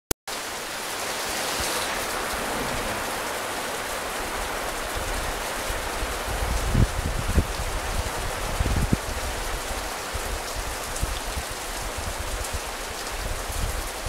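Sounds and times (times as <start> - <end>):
steady rain hiss: 0.3 - 14.0.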